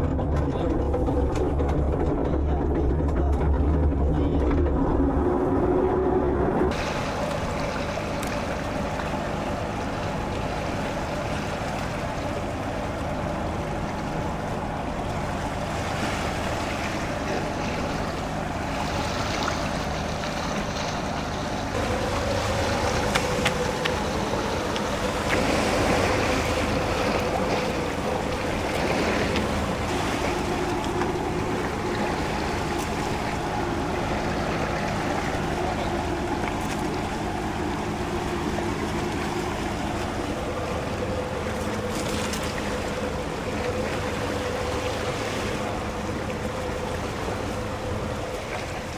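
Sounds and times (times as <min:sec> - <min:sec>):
boat engine running: 0:00.0 - 0:48.9
waves washing: 0:00.0 - 0:48.9
wind: 0:00.0 - 0:48.9.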